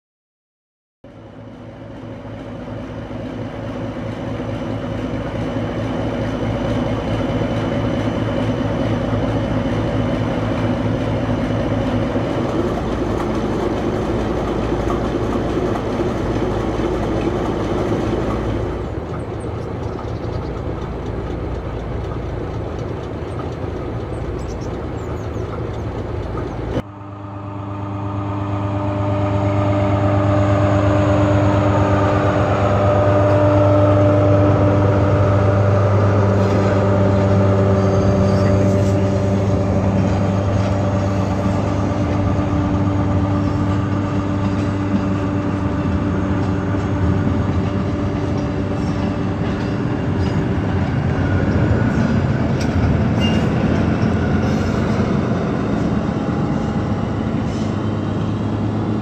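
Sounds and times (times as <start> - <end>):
diesel train engine drone: 1.0 - 59.0.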